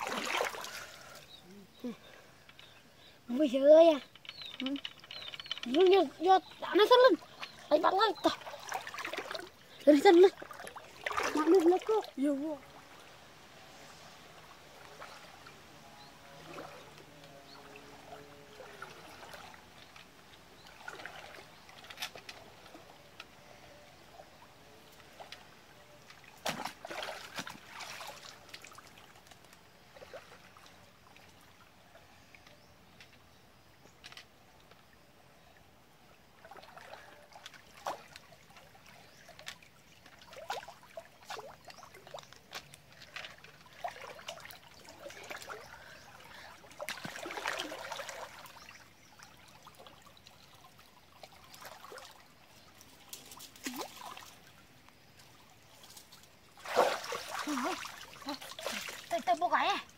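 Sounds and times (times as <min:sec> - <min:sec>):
water splashing: 0:00.0 - 0:02.2, 0:05.0 - 0:15.6, 0:16.2 - 0:22.9, 0:24.4 - 0:31.6, 0:36.2 - 0:59.9
faint water trickle: 0:00.0 - 0:59.9.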